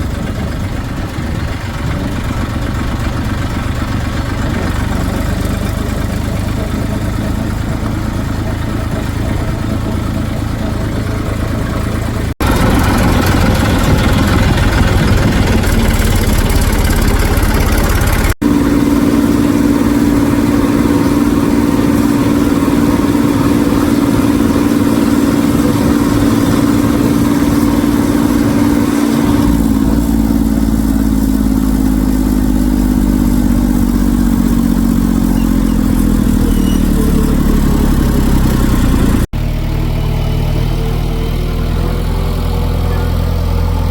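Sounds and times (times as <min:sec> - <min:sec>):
diesel engines running: 0:00.0 - 0:43.9.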